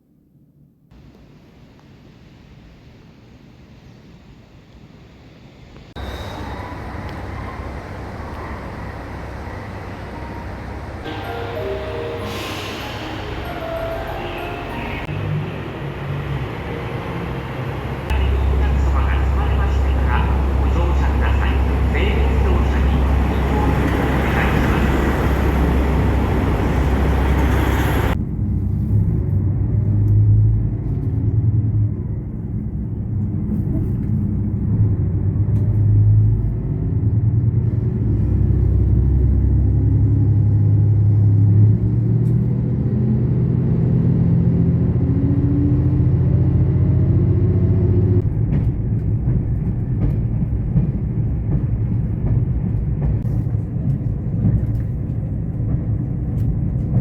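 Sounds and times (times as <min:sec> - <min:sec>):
vehicle engine rumbling: 0:06.0 - 0:57.0.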